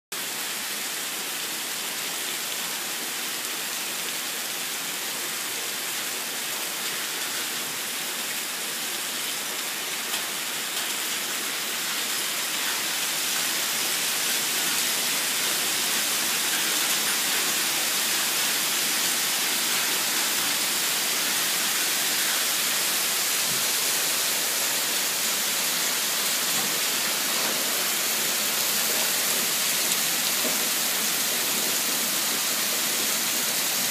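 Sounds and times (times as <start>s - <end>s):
heavy rain and hail: 0.2s - 33.9s.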